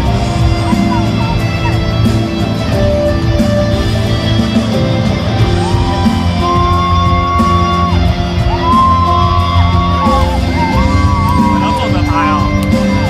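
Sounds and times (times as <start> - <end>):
band accompaniment over pa: 0.0 - 13.0.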